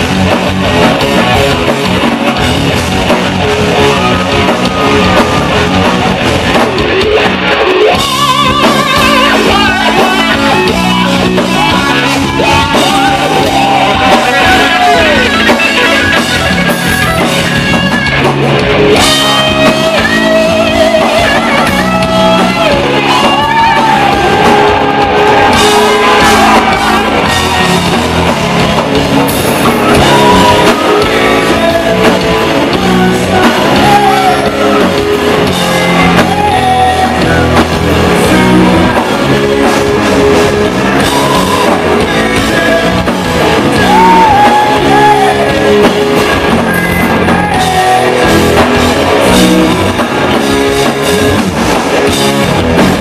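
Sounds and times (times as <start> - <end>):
male lead singer: 0.0 - 53.0
rock band playing live: 0.0 - 53.0.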